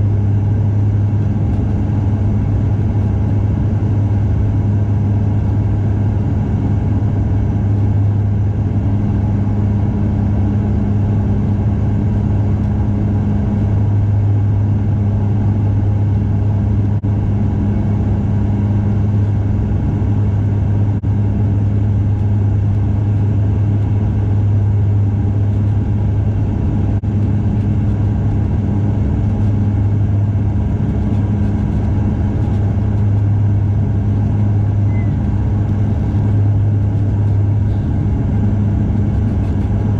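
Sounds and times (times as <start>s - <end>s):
turboprop engine drone in cabin: 0.0s - 39.9s.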